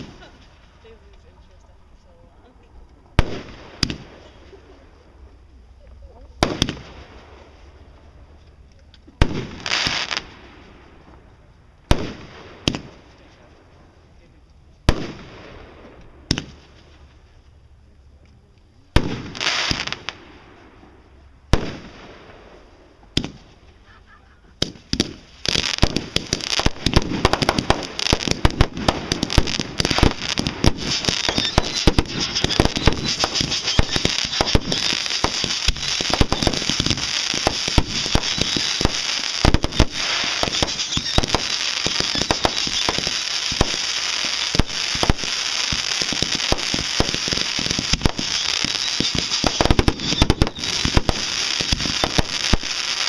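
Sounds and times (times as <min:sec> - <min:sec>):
firework bangs: 0:00.0 - 0:01.1, 0:03.0 - 0:05.3, 0:06.4 - 0:08.3, 0:09.1 - 0:13.9, 0:14.8 - 0:17.1, 0:18.9 - 0:53.0
fireworks crackling and popping: 0:00.0 - 0:53.0.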